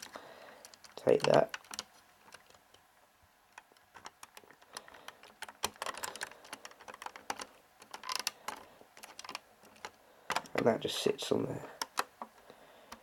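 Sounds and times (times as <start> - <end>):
small plastic clicks and taps: 0.0 - 2.8, 3.5 - 10.7, 11.7 - 13.0
handling rustle: 0.0 - 10.9.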